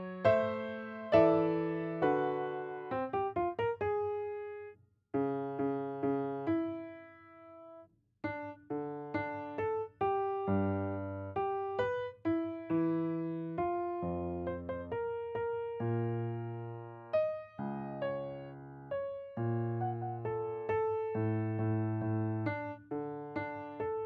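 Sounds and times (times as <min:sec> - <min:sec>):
solo piano notes and chords: 0:00.0 - 0:24.0.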